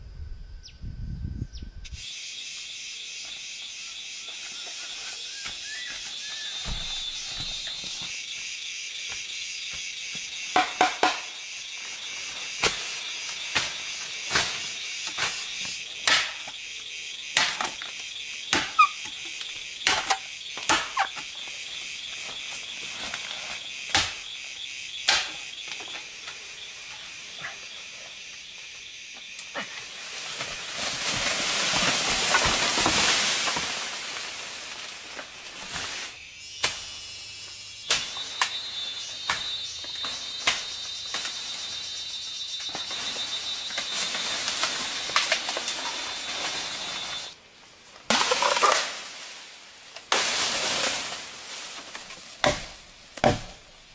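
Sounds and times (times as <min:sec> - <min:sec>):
high steady insect tone: 0:00.0 - 0:53.9
insects buzzing chorus: 0:00.0 - 0:53.9.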